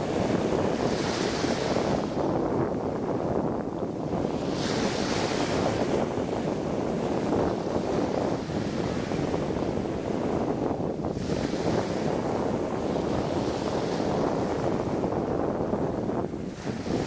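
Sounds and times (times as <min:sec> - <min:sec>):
small waves washing on sand: 0:00.0 - 0:17.0
wind buffeting microphone: 0:00.0 - 0:17.0.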